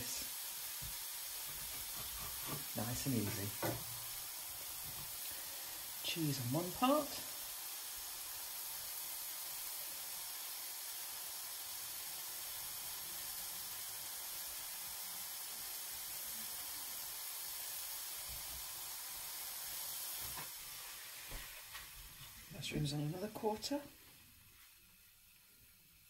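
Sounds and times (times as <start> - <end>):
mushrooms sizzling in pan: 0.0 - 26.0.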